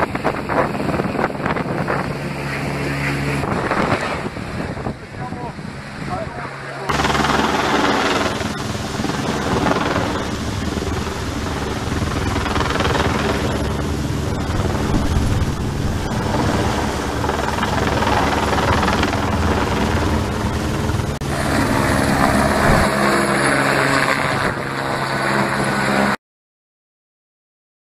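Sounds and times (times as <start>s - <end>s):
helicopter hovering overhead: 0.0s - 26.2s.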